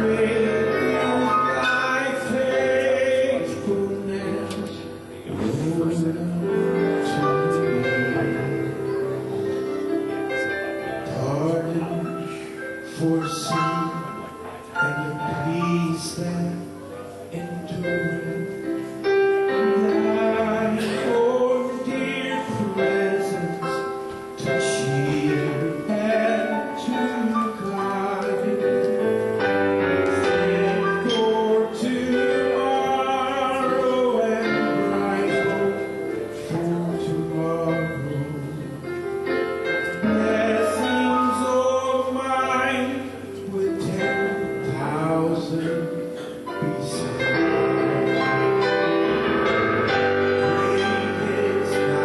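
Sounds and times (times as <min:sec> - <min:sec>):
instrumental accompaniment: 0:00.0 - 0:52.0.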